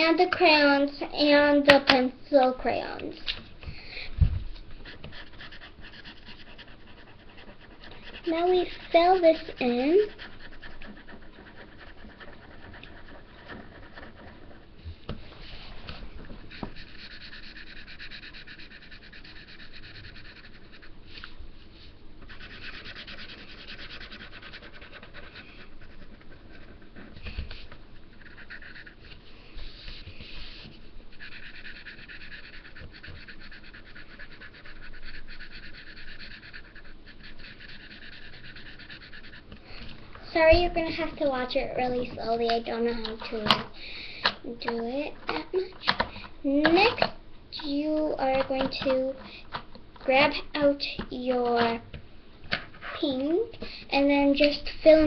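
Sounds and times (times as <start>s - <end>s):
marker scratching on paper: 4.8s - 14.8s, 15.5s - 21.3s, 22.2s - 39.6s, 40.4s - 43.7s, 44.5s - 49.3s, 50.0s - 51.8s, 52.6s - 55.0s.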